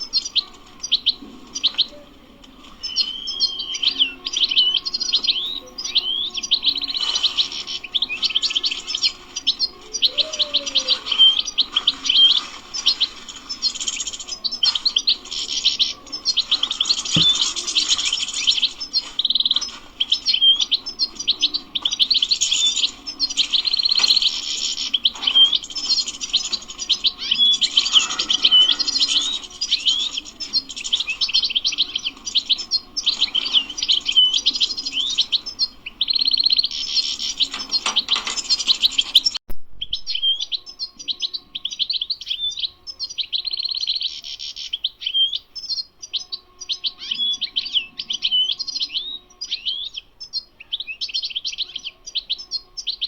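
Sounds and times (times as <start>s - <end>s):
background hum: 0.0s - 53.0s
bird twittering song: 0.0s - 53.0s.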